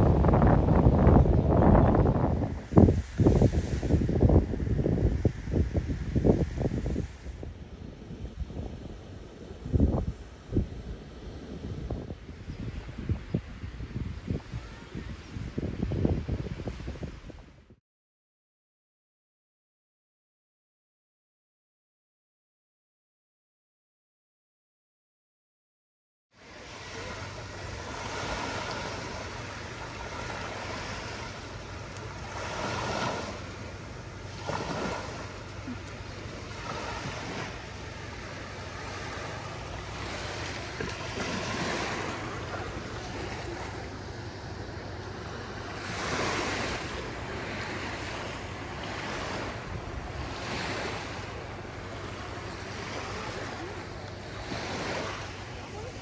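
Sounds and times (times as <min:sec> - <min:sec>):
small waves breaking on sand: 0:00.0 - 0:17.4, 0:26.4 - 0:56.0
wind rumble on microphone: 0:00.0 - 0:17.8, 0:26.4 - 0:56.0.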